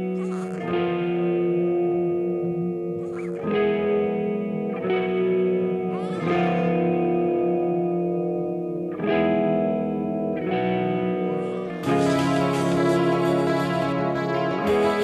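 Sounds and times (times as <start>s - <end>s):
electric guitar ringing chords: 0.0s - 15.0s.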